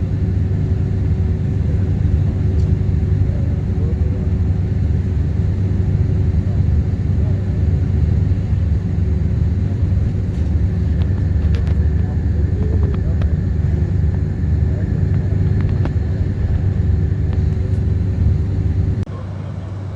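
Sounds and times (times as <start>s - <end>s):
vehicle driving rumble: 0.0s - 19.9s.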